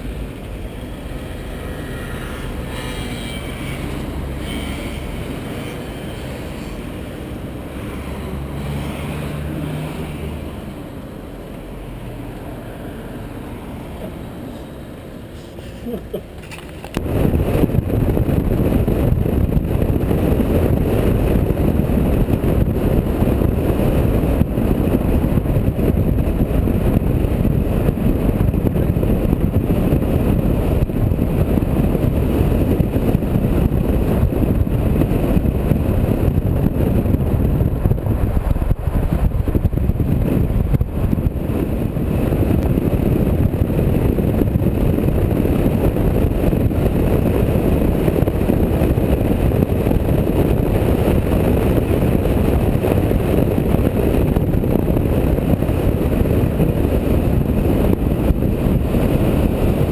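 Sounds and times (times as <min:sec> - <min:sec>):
small car engine running: 0:00.0 - 0:59.9
wind and road noise: 0:00.0 - 0:59.9.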